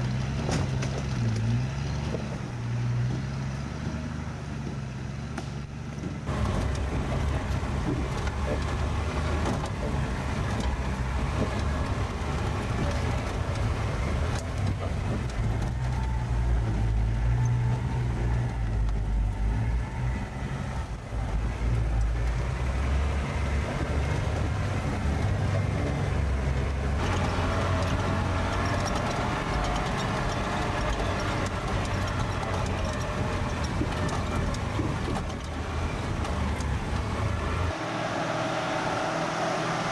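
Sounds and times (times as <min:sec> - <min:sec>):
vehicle engine running under load: 0:00.0 - 0:39.9.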